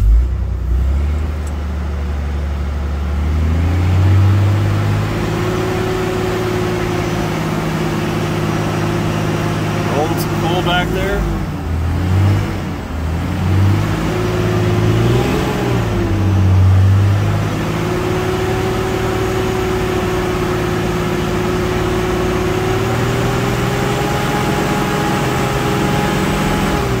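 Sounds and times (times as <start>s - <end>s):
diesel engine revving and idling: 0.0s - 27.0s.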